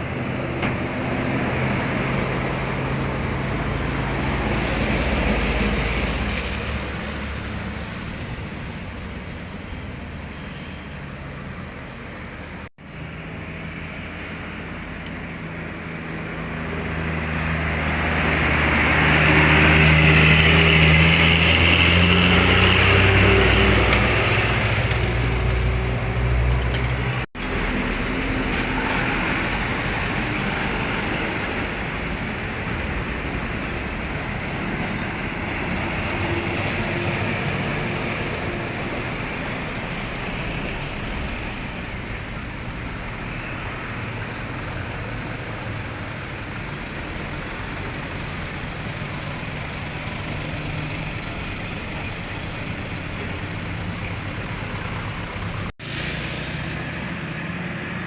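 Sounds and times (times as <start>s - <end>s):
buses driving past: 0.0s - 58.0s.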